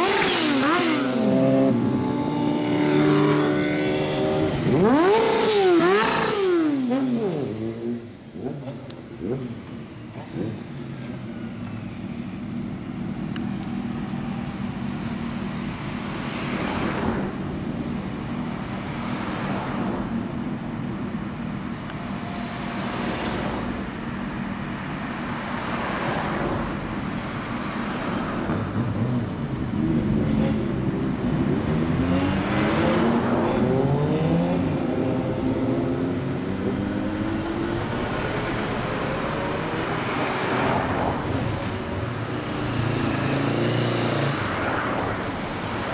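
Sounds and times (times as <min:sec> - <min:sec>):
cars passing: 0:00.0 - 0:45.9
motorcycle engines humming: 0:00.0 - 0:45.9.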